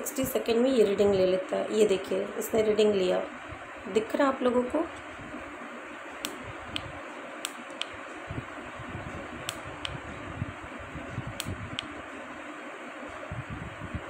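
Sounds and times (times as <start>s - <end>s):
fan-like room hiss: 0.0s - 14.0s.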